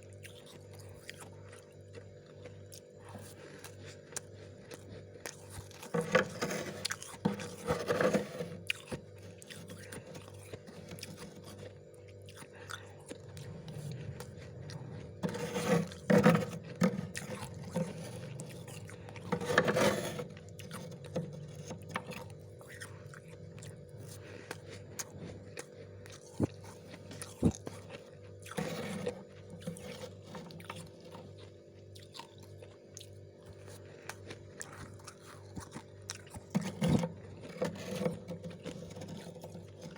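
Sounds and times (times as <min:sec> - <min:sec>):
frost being chewed and crunched: 0:00.0 - 0:39.9
steady low hum: 0:00.0 - 0:39.9.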